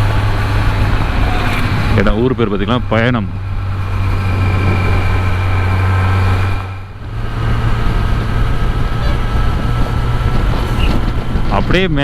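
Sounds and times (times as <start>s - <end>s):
motorcycle engine humming: 0.0s - 11.6s.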